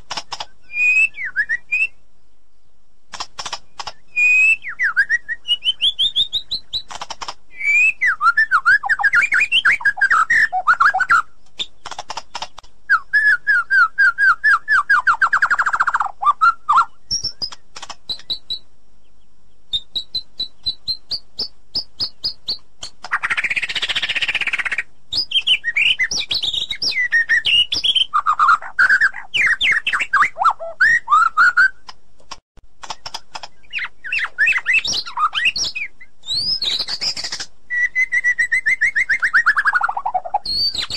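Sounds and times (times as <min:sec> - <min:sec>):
bird singing whistles and trills: 0:00.3 - 0:02.0, 0:03.8 - 0:06.9, 0:07.5 - 0:11.9, 0:12.9 - 0:18.7, 0:19.7 - 0:31.8, 0:33.5 - 0:40.9.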